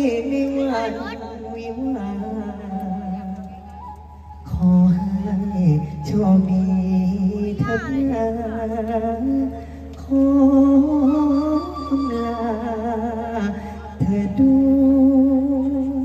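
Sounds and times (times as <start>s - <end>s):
man singing with vibrato: 0.0s - 3.4s, 4.4s - 16.0s.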